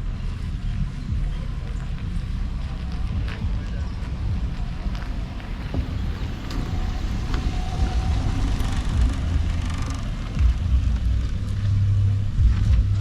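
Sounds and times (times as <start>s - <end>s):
car engine and road rumble: 0.0s - 13.0s
hum: 0.0s - 13.0s.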